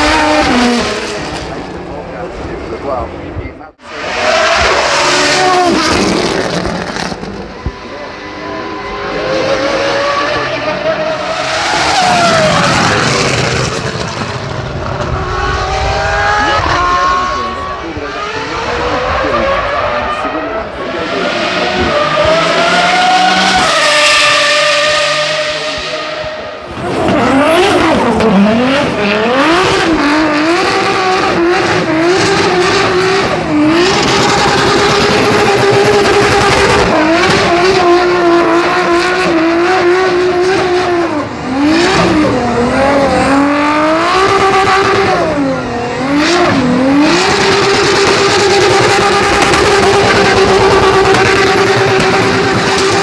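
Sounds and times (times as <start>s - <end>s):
racing car engine revving: 0.0s - 53.0s.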